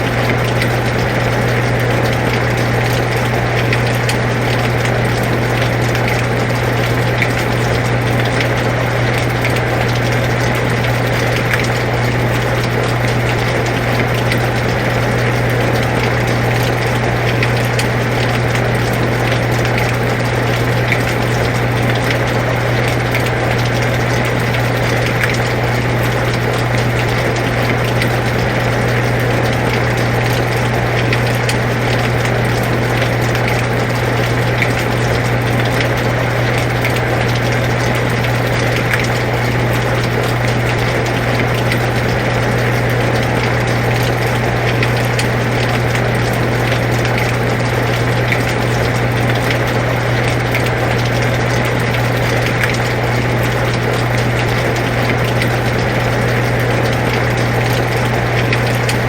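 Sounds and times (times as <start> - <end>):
air conditioner humming: 0.0 - 59.0
rain falling: 0.0 - 59.0
raindrop ticks: 0.0 - 59.0.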